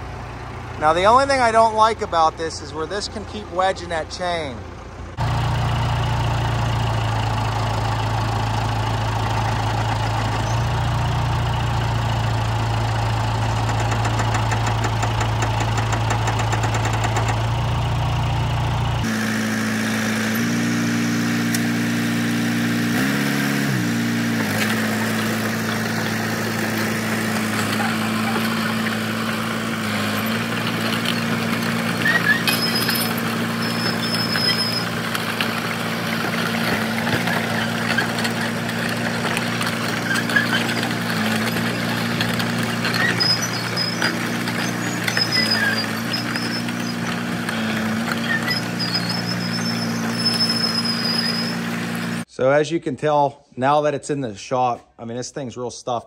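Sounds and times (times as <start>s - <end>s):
diesel engine running: 0.0s - 52.3s.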